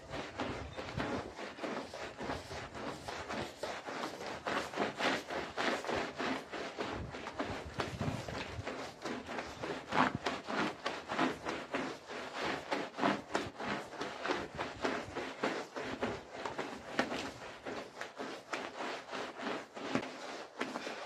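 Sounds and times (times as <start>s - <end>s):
push broom scrubbing wet rug: 0.0s - 21.0s.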